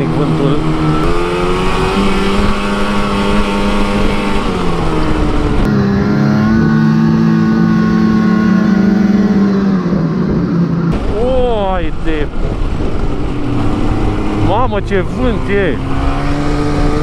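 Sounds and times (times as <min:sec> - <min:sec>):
snowmobile engine running: 0:00.0 - 0:17.0
wind buffeting microphone: 0:00.0 - 0:17.0.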